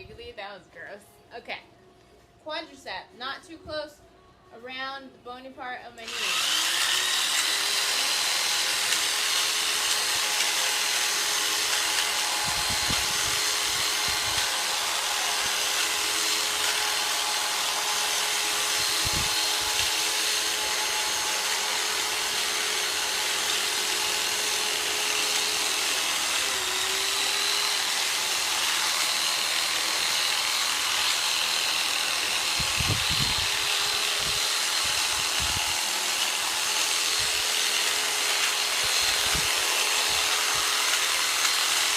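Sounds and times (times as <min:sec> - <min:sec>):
jigsaw motor running: 0:06.0 - 0:41.9.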